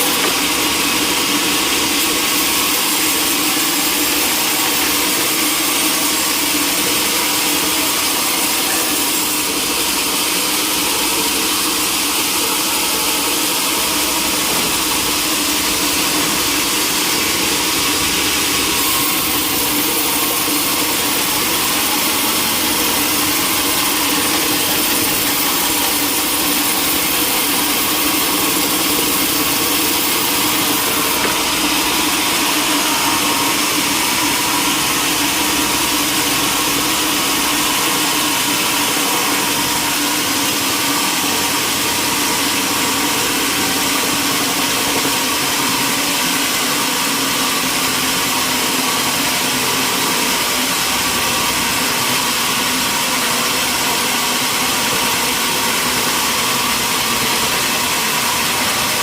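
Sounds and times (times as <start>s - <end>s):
sawmill saw hiss and hum: 0.0s - 59.0s.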